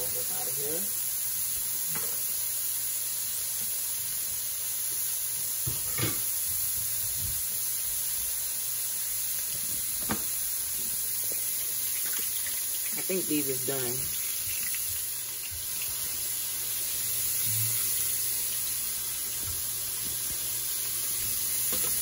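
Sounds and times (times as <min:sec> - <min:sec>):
food sizzling in a skillet: 0:00.0 - 0:22.0.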